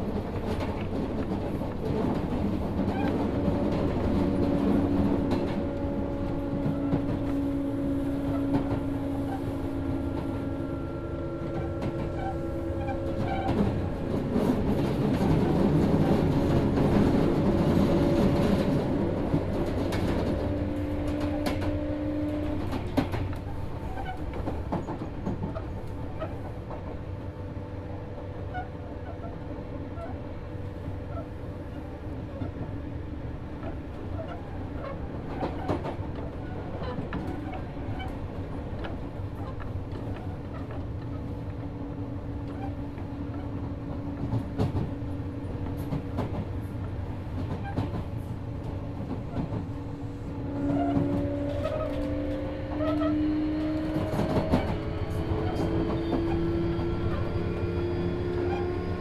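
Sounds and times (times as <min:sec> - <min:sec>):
rail-joint clicks: 0:00.0 - 0:27.3, 0:33.5 - 0:59.0
train motor and inverter tones: 0:00.0 - 0:59.0
wheels rumbling on rail: 0:00.0 - 0:59.0.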